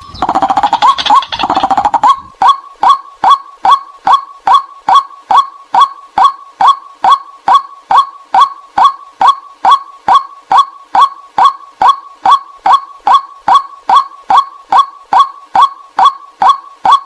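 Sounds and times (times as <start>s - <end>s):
bird calling kwak: 0.0s - 17.0s
harsh bird chattering: 0.0s - 17.0s.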